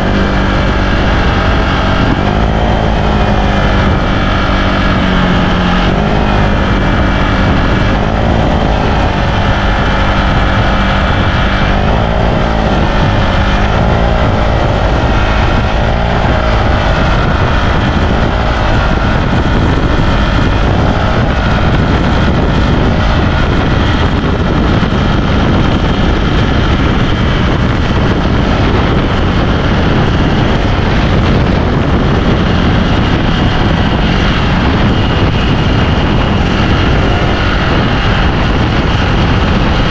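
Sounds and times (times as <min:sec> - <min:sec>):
scooter engine running: 0:00.0 - 0:39.9
wind noise on microphone: 0:00.0 - 0:39.9.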